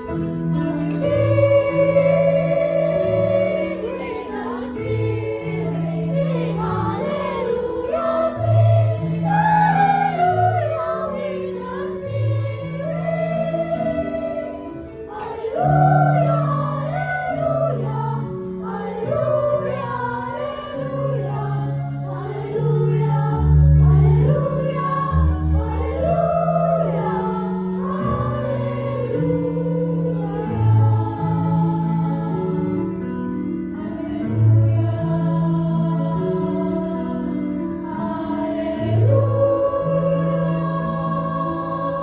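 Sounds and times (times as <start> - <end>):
church choir singing: 0.0 - 42.0.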